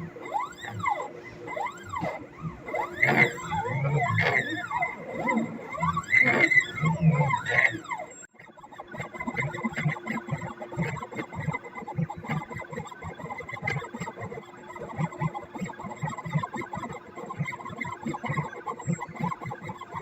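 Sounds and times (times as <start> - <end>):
stepper motors whirring: 0.0 - 20.0.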